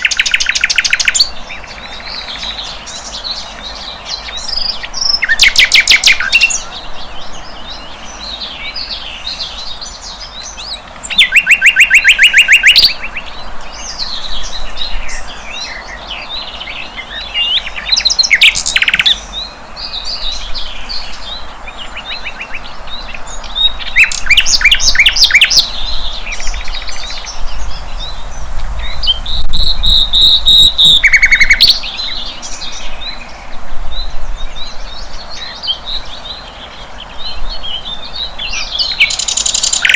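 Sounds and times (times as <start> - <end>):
flycatcher twittering song: 0.0 - 39.9.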